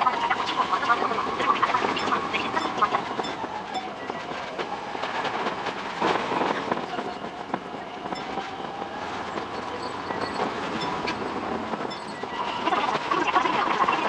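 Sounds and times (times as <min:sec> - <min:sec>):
train wheels clattering on rails: 0:00.2 - 0:14.0.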